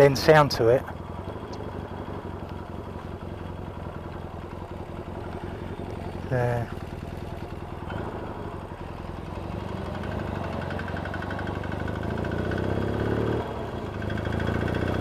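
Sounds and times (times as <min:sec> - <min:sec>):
engine tapping: 0:00.0 - 0:12.3
motorcycle engine running: 0:00.0 - 0:15.0.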